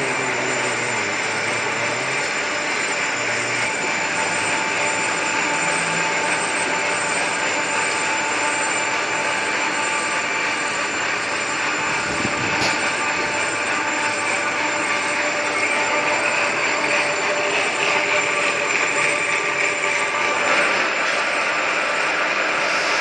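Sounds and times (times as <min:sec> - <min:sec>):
lathe machining steel: 0:00.0 - 0:23.0.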